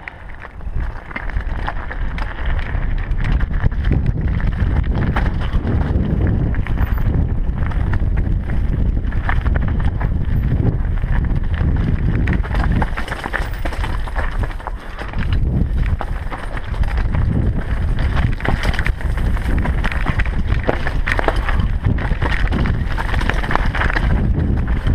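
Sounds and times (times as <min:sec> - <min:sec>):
bike clattering over rocks: 0:00.0 - 0:24.9
tyres crunching on gravel: 0:00.0 - 0:24.9
wind buffeting microphone: 0:00.0 - 0:24.9.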